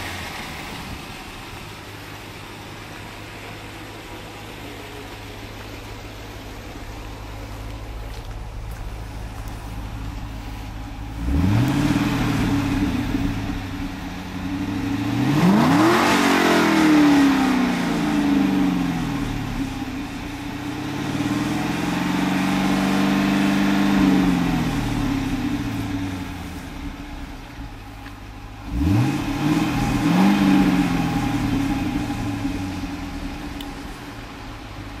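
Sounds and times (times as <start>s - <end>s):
engine revving: 0.0s - 27.9s, 28.5s - 34.2s.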